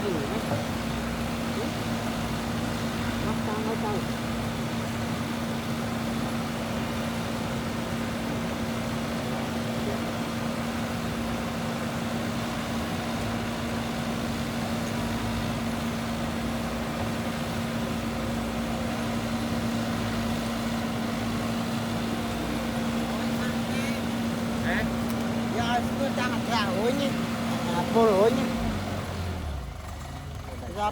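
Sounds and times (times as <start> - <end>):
diesel engine of heavy machinery: 0.0 - 30.9.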